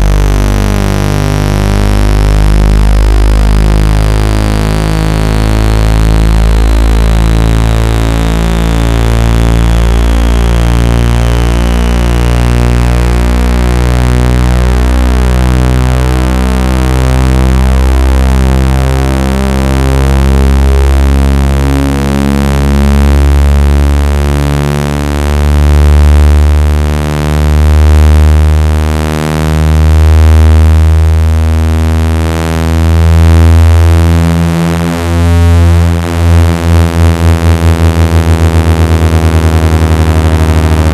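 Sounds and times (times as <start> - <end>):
deep bass hum tone: 0.0 - 40.9.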